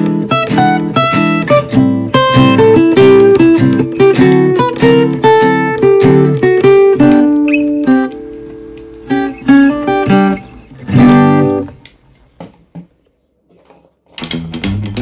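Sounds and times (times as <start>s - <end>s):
plucked acoustic guitar: 0.0s - 11.8s, 13.6s - 15.0s.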